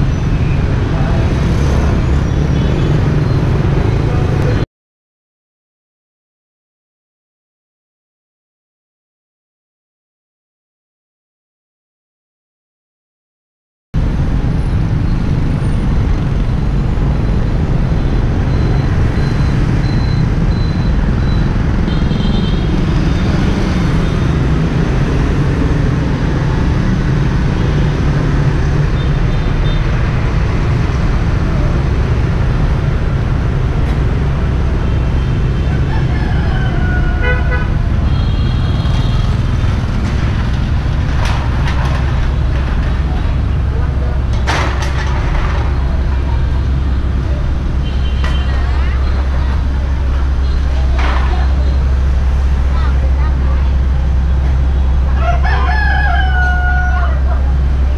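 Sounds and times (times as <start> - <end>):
motorbikes and cars passing: 0.0 - 4.7, 14.0 - 57.9.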